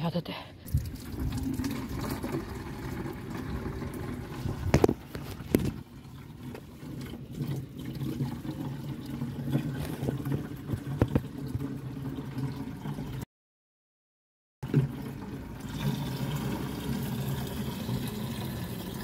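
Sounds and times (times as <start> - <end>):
water running into plastic jug: 0.7 - 13.2, 14.6 - 19.0.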